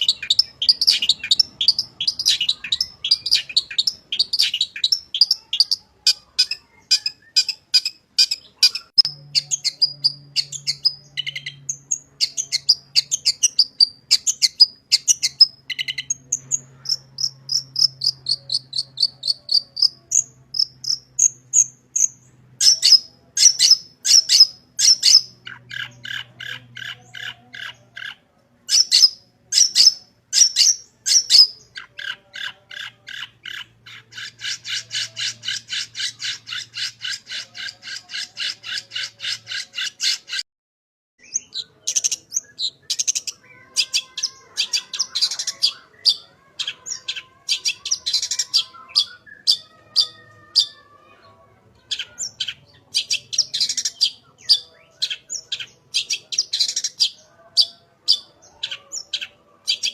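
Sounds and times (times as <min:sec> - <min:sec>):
bird singing varied song: 0:00.0 - 0:40.4, 0:41.2 - 0:59.9.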